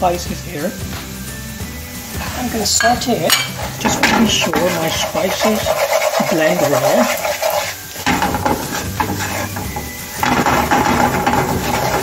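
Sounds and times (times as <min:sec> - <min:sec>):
onion sizzling in frying pan: 0:00.0 - 0:12.0
wooden spatula scraping pan: 0:02.1 - 0:12.0.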